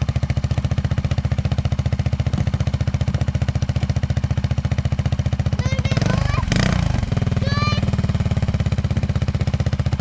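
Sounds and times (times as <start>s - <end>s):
engine running rapid pulsing: 0.0s - 10.0s.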